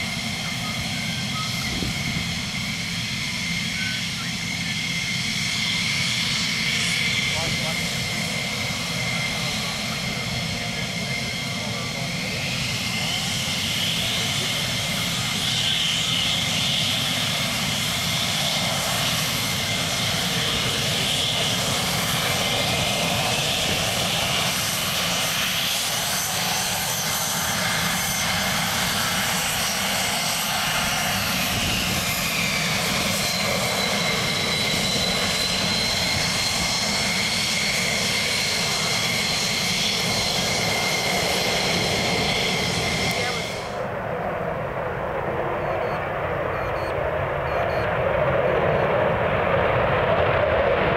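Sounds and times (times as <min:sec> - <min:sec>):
jet engine roar with whine: 0:00.0 - 0:50.9.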